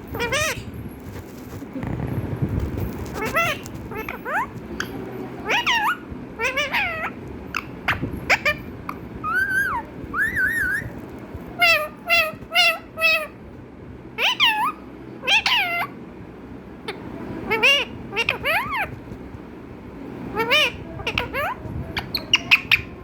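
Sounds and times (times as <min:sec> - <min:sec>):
parrot calling: 0:00.0 - 0:01.6, 0:02.9 - 0:13.5, 0:14.2 - 0:16.0, 0:16.8 - 0:19.2, 0:20.2 - 0:23.0.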